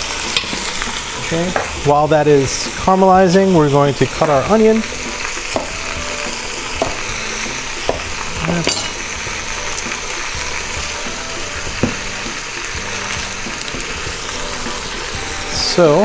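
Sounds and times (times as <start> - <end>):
meat sizzling in a pot: 0.0 - 16.0.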